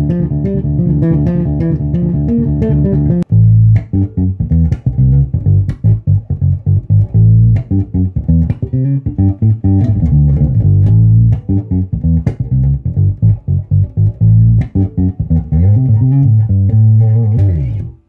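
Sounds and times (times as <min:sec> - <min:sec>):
solo electric bass line: 0:00.0 - 0:18.0.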